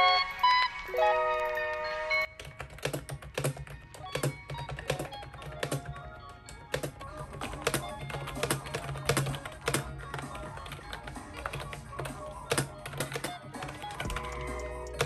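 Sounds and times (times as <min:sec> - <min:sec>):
background music: 0:00.0 - 0:15.0
keyboard typing clicks: 0:02.3 - 0:15.0.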